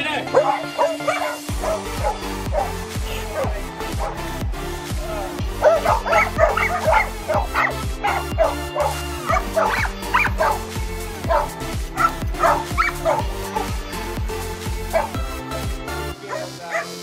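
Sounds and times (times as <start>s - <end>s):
background music with steady beat: 0.0s - 17.0s
dogs barking and yipping: 0.2s - 4.5s, 5.3s - 15.4s, 16.1s - 17.0s.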